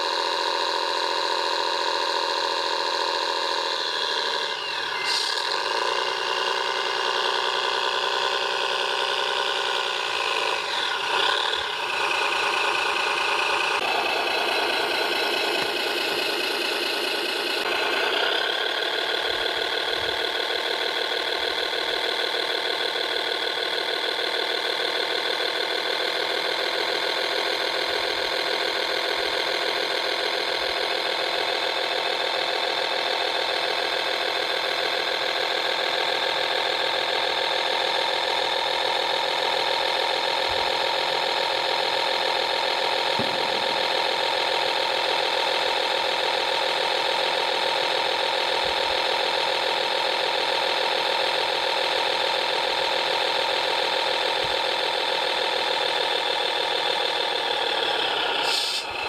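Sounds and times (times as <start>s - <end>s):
model crane motor whirring: 0.0s - 59.0s.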